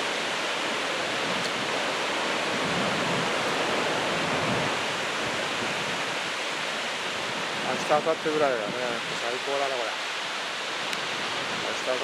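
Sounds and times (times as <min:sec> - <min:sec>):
heavy surf breaking on sand: 0:00.0 - 0:12.0.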